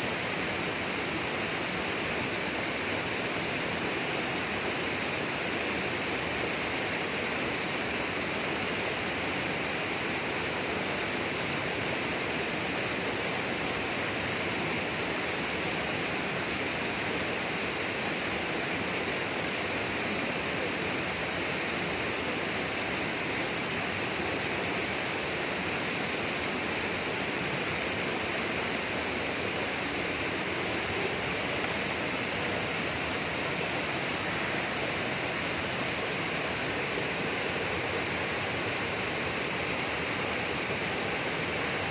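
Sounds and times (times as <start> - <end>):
flowing water rushing: 0.0 - 41.9.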